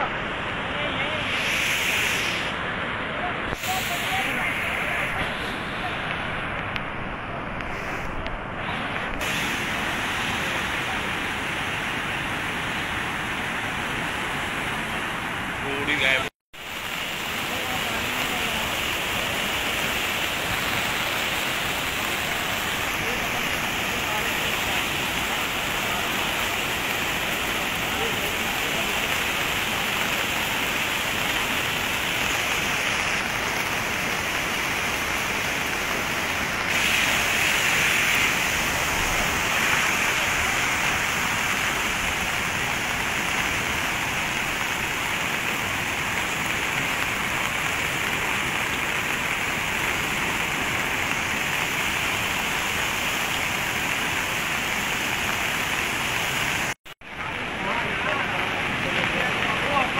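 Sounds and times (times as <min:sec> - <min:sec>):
river in flood roaring: 0:00.0 - 0:59.9.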